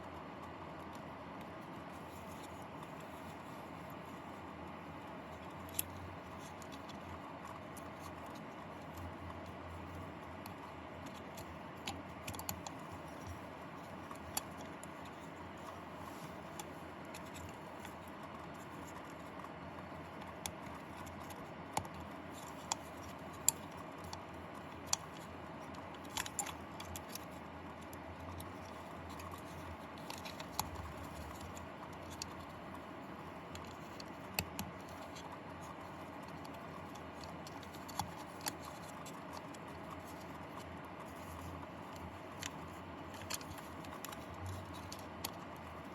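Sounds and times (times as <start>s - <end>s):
low hum and hiss: 0.0s - 45.9s.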